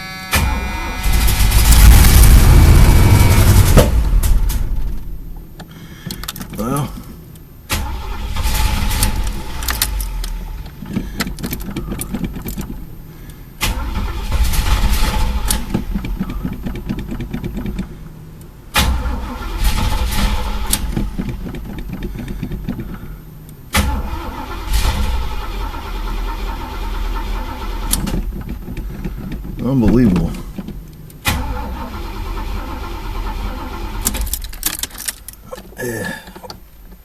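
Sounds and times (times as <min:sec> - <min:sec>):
car engine cranking on starter: 0:00.0 - 0:37.0.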